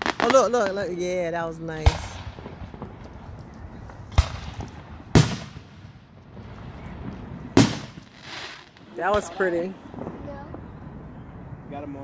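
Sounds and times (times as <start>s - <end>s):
firework bangs: 0.0s - 11.3s.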